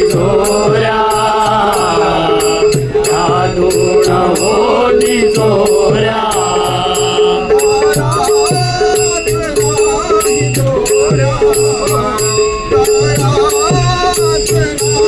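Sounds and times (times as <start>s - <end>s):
held drone note: 0.0s - 15.0s
low drum beats: 0.0s - 15.0s
rattling percussion: 0.0s - 15.0s.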